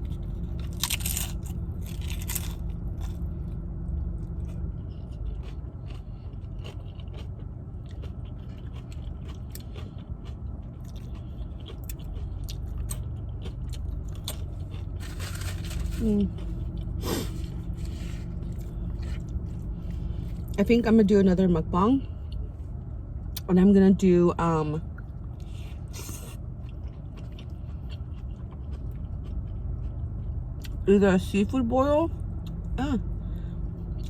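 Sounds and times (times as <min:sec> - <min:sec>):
chewing and crunching food: 0:00.0 - 0:21.1, 0:24.8 - 0:31.5, 0:32.1 - 0:34.0.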